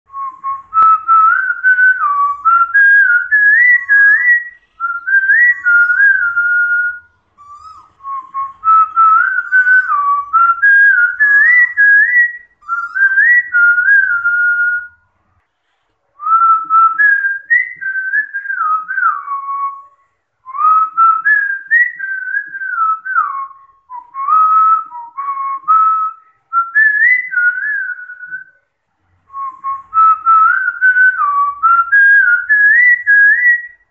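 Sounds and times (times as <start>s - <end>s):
person whistling a tune: 0.1s - 15.0s, 16.2s - 28.6s, 29.3s - 33.9s.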